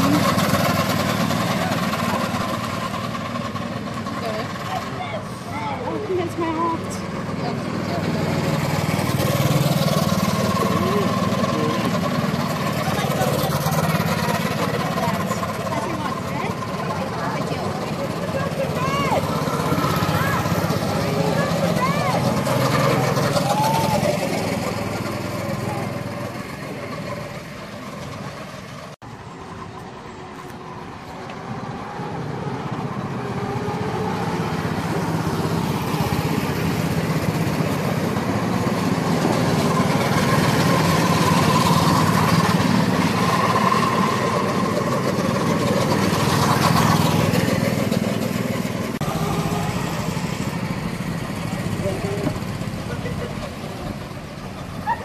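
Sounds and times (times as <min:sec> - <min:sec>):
go-kart engines running: 0:00.0 - 0:55.0.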